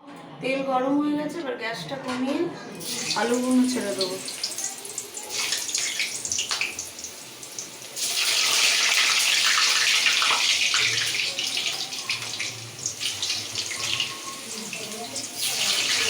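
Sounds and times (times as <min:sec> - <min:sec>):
potatoes sizzling in hot oil: 0:02.8 - 0:16.0.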